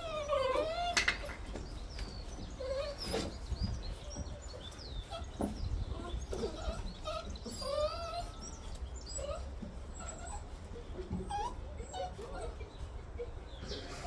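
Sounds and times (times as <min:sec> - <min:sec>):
puppies whining and whimpering: 0:00.0 - 0:14.0.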